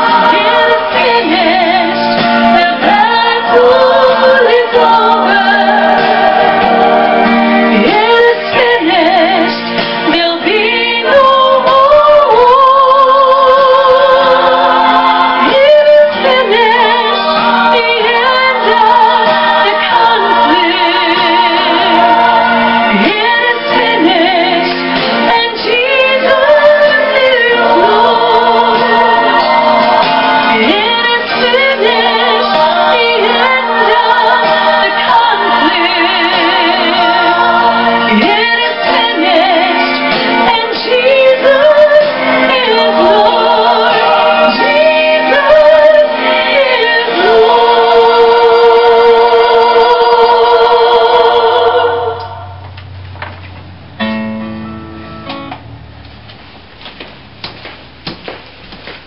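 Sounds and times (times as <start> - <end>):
woman singing gospel: 0.0 - 7.0, 7.6 - 52.6
musical accompaniment: 0.0 - 58.6.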